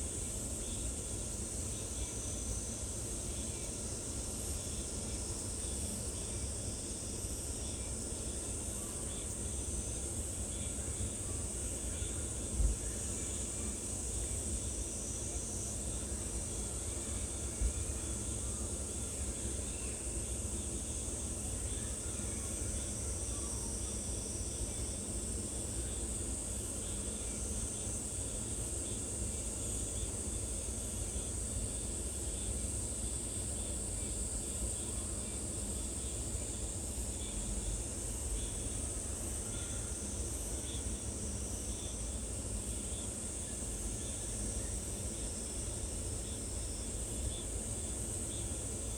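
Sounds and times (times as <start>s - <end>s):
insects droning in chorus: 0.0s - 48.9s.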